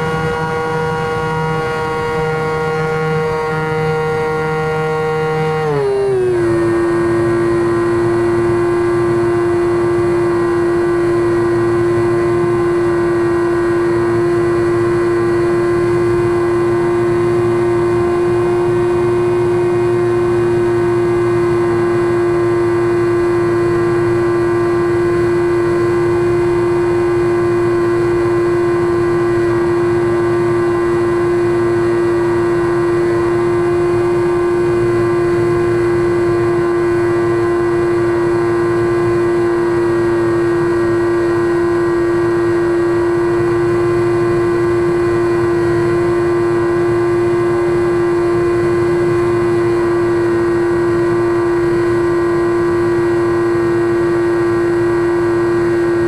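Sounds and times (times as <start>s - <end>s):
electric motor propeller whine: 0.0s - 56.0s.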